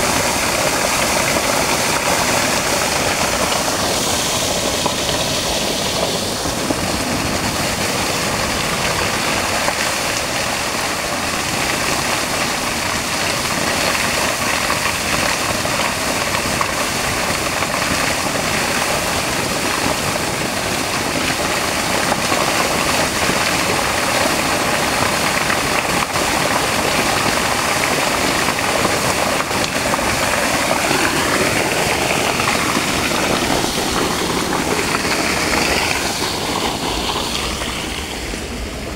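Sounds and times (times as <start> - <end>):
water splashing onto rocks: 0.0 - 38.3
water gushing from pipe: 0.0 - 38.9.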